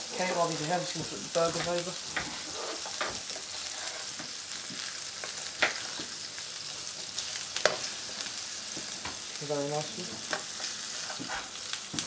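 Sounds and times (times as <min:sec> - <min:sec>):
burgers sizzling in frying pan: 0:00.0 - 0:12.0.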